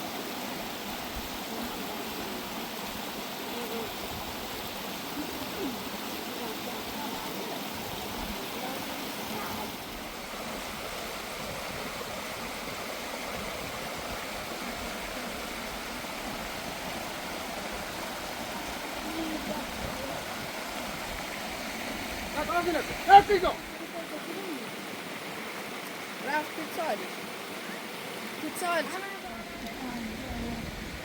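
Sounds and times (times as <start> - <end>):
stream flowing: 0.0 - 31.0.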